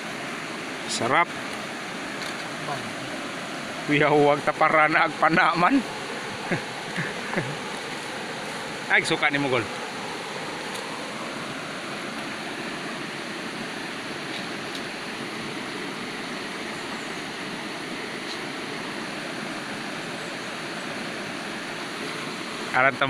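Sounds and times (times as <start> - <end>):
river water rushing over rocks: 0.0 - 23.0.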